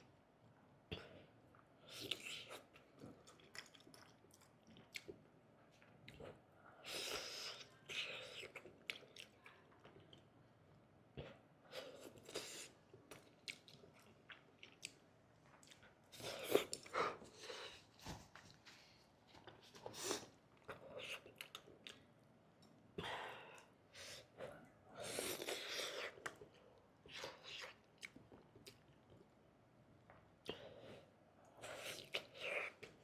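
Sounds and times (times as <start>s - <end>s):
person chewing food: 1.5s - 10.3s, 11.2s - 22.8s, 23.5s - 29.3s, 30.4s - 33.0s.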